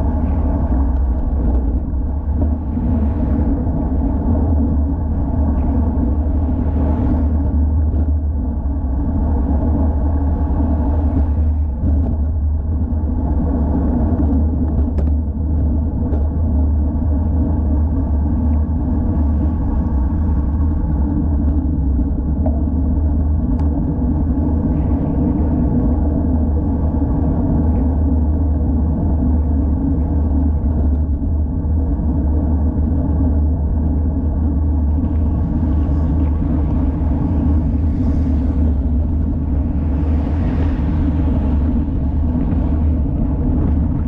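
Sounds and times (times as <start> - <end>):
bicycle tyre and road noise: 0.0 - 44.0
wind buffeting microphone: 0.0 - 44.0.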